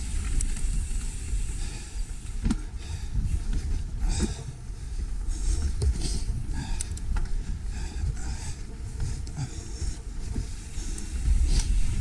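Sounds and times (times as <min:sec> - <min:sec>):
bike knocking and rattling: 0:00.0 - 0:12.0
wind and tyre rumble: 0:00.0 - 0:12.0.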